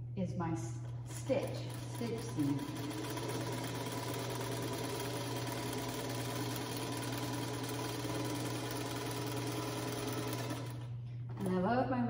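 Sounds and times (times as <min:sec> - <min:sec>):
sewing machine running: 0:00.8 - 0:11.7.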